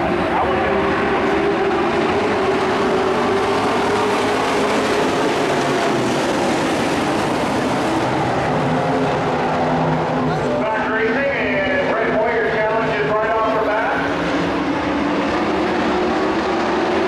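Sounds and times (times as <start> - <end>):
race truck engines droning: 0.0 - 17.0.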